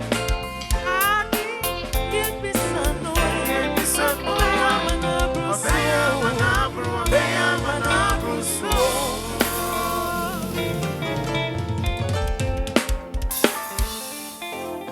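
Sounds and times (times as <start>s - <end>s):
gospel band music: 0.0s - 14.9s.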